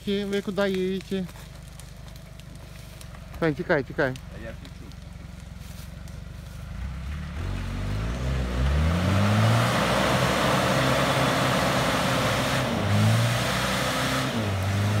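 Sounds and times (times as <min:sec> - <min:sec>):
suv engine revving: 0:01.5 - 0:15.0.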